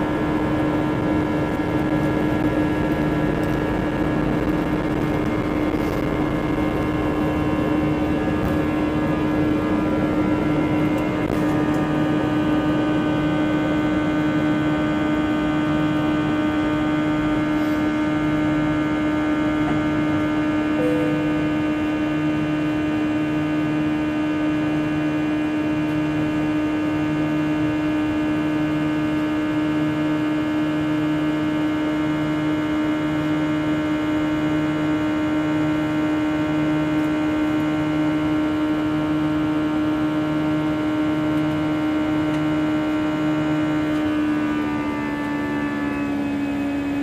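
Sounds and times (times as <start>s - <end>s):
jet engines from inside cabin: 0.0s - 47.0s.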